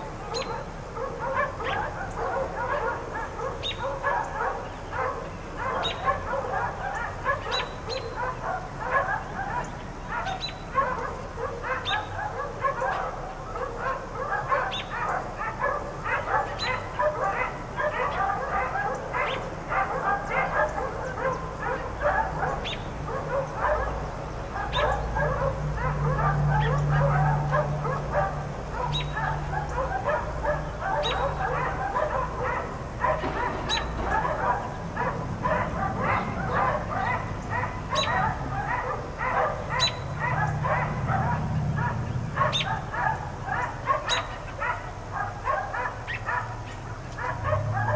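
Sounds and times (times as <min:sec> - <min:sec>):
dogs barking: 0:00.0 - 0:47.9.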